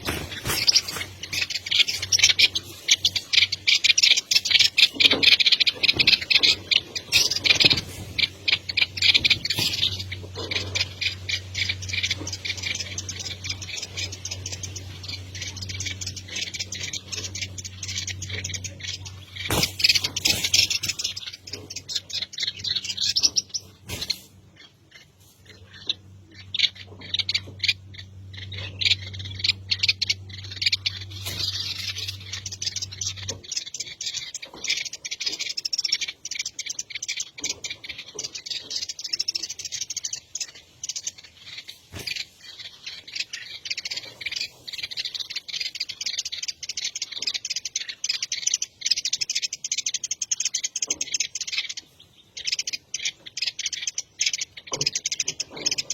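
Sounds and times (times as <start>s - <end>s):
birds chirping: 0.0s - 55.9s
low steady hum: 0.0s - 55.9s.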